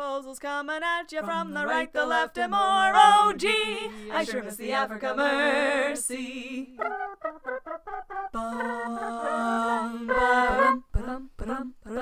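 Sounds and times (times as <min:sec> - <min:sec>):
a cappella voices singing: 0:00.0 - 0:12.0.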